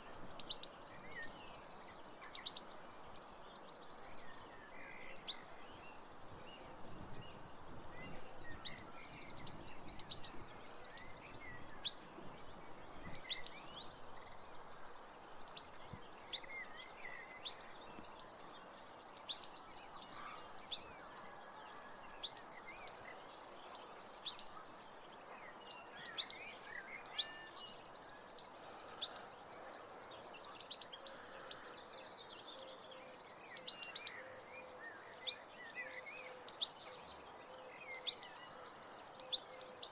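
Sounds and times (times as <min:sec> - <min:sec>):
birds chirping and trilling: 0:00.0 - 0:39.9
outdoor background noise: 0:00.0 - 0:39.9.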